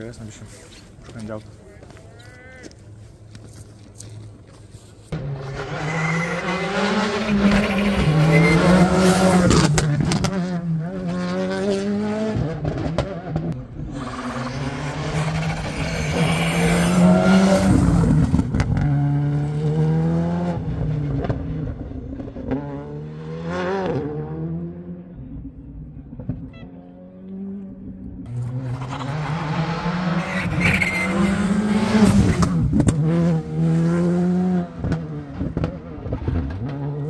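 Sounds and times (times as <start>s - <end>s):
rally car engine revving: 5.2s - 25.1s, 26.2s - 37.0s.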